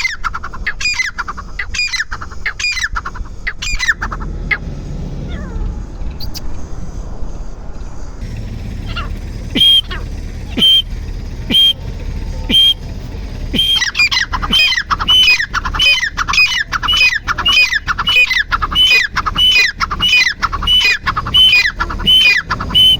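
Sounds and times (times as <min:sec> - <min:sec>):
francolin calling: 0:00.0 - 0:22.9.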